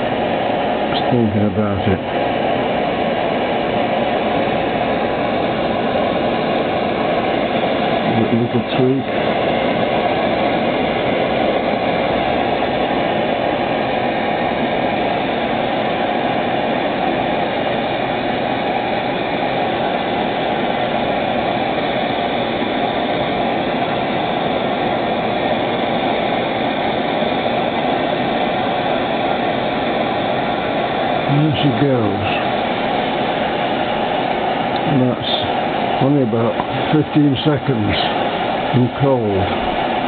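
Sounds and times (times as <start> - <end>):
gas burner flame hissing: 0.0 - 40.0.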